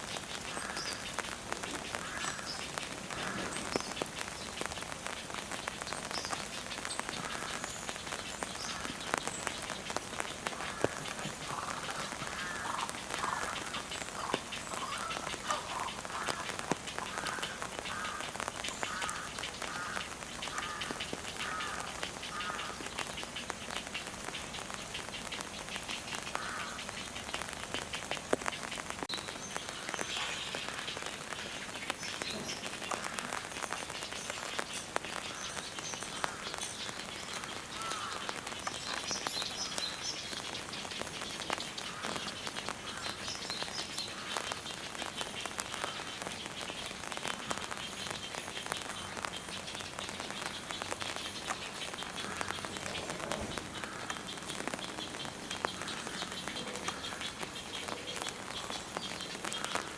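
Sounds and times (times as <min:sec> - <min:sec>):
steady rain: 0:00.0 - 0:59.9
frog or bird calls: 0:00.1 - 0:04.2, 0:07.1 - 0:08.0, 0:08.6 - 0:34.6, 0:35.2 - 0:59.9.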